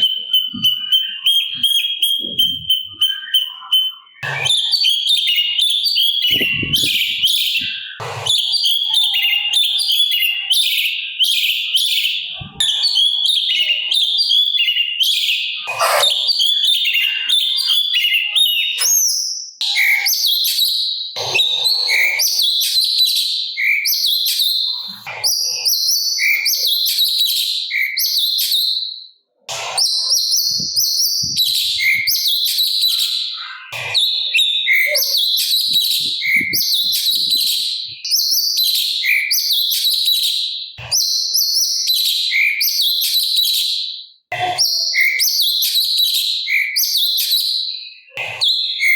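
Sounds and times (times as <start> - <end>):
bird chattering song: 0.0 - 28.8, 29.5 - 43.7.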